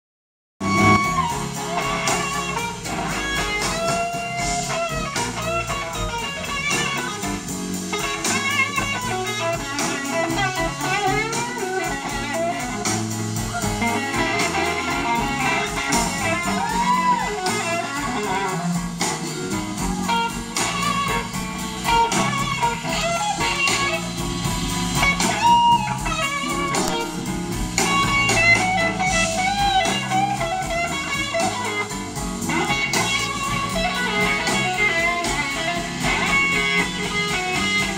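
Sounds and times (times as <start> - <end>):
blues-rock band playing: 0.6 - 37.9
electric guitar lead bending notes: 0.6 - 37.9.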